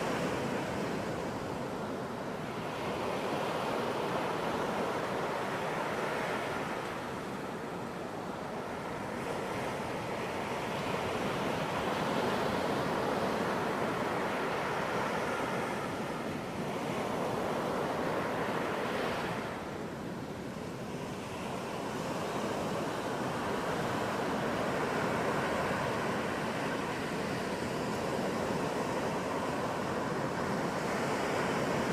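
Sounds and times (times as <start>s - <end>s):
ocean surf breaking on beach: 0.0s - 31.9s.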